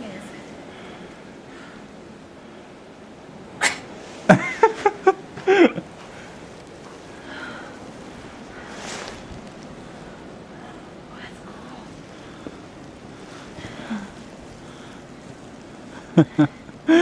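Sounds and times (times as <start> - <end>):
wind noise: 0.0 - 17.0.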